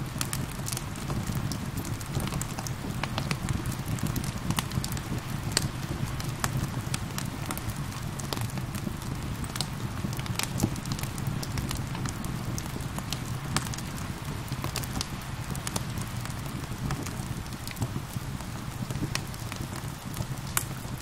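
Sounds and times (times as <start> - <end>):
rain falling: 0.0 - 21.0
wood fire crackling: 0.0 - 21.0.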